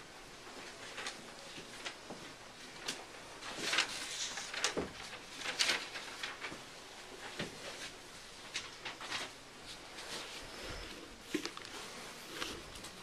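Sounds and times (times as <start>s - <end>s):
papers and bag rustling: 0.4s - 13.0s.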